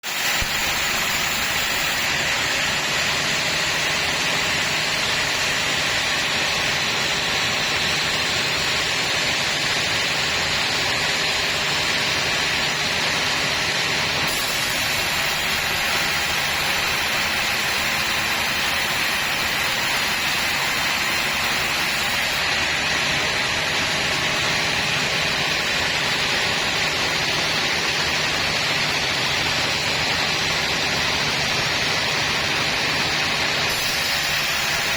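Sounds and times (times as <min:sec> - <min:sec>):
sawmill saw cutting wood: 0:00.0 - 0:34.9.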